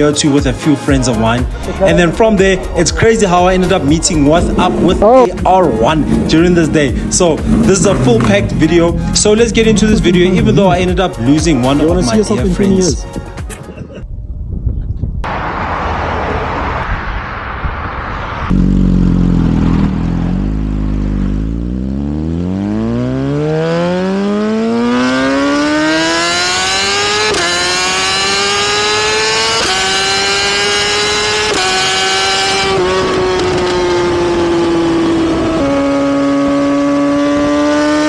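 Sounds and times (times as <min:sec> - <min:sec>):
motorbike engine accelerating: 0:01.4 - 0:13.1, 0:18.4 - 0:38.0.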